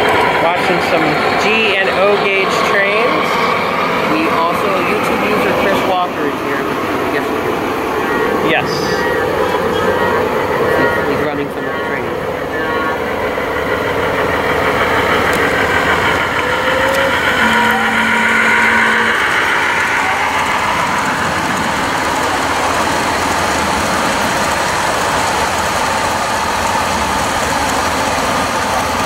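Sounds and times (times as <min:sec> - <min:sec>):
brief train whine: 0:00.0 - 0:29.0
miniature train rumbling on track: 0:00.0 - 0:29.0.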